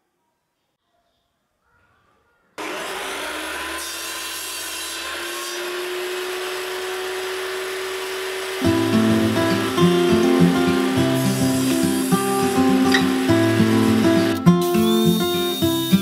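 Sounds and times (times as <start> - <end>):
table saw cutting wood: 2.6 - 16.0.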